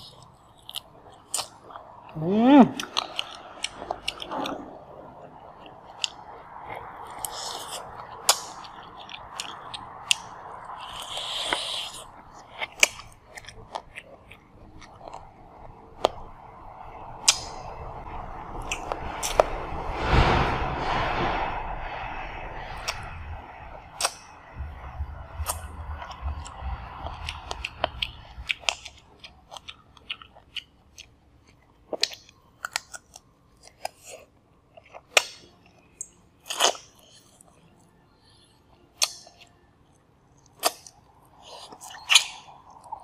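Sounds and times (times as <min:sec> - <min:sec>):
chewing and crunching food: 0:00.0 - 0:17.8, 0:18.4 - 0:19.5, 0:22.7 - 0:43.0.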